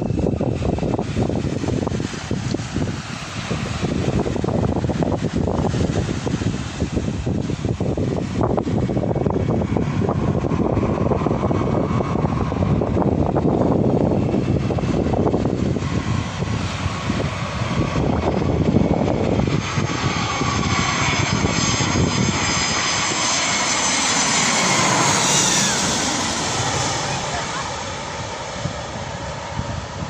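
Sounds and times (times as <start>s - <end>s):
high jet engine whine: 0.0s - 30.0s
jet airliner low rumble: 0.0s - 30.0s.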